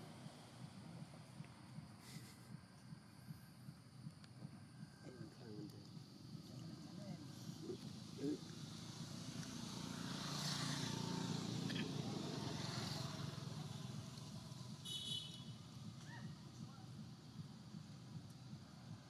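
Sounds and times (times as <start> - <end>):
vehicle engine rumble passing: 0.0 - 19.0.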